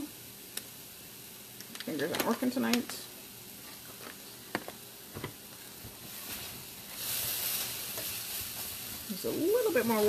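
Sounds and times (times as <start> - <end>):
mushrooms sizzling in a frying pan: 0.0 - 10.0.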